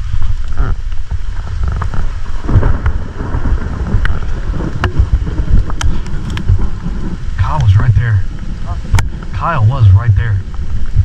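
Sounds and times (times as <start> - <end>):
rain: 0.0 - 11.0
wind buffeting the microphone: 0.0 - 11.0.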